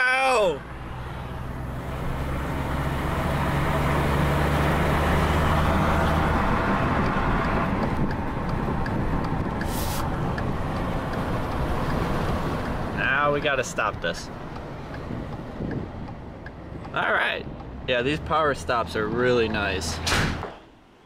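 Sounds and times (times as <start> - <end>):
turn signal ticking: 0.6 - 19.7
engine accelerating hard: 0.6 - 20.0.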